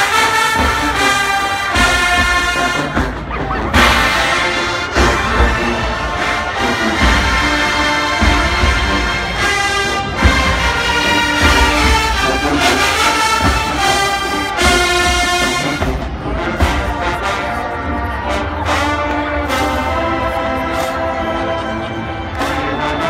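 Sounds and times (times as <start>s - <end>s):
brass chords: 0.0s - 23.0s.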